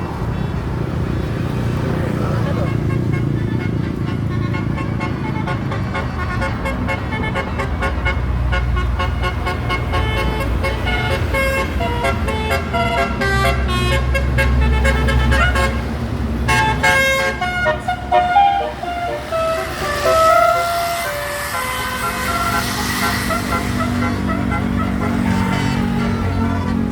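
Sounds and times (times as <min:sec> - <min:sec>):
bus engine running: 0:00.0 - 0:26.9
bus horns playing musical notes: 0:02.4 - 0:26.9.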